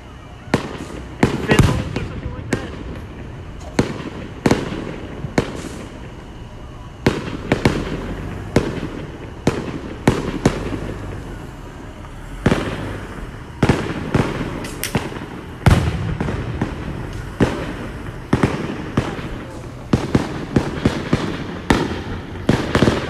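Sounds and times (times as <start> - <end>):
fireworks bursting with bangs: 0.0 - 23.0.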